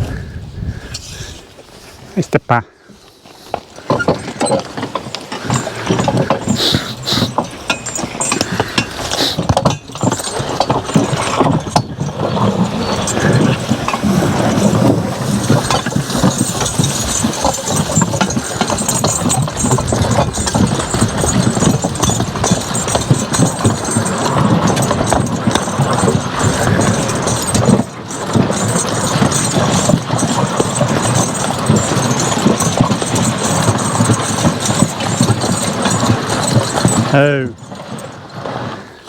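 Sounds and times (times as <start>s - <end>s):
hooves clopping: 0.0s - 39.0s
sled scraping along ground: 0.0s - 39.0s.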